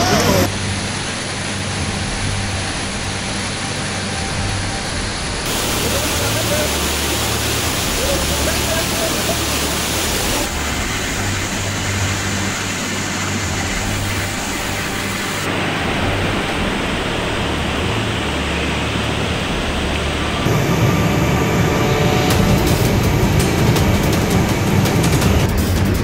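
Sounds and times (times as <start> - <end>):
rushing floodwater roar: 0.0 - 26.0.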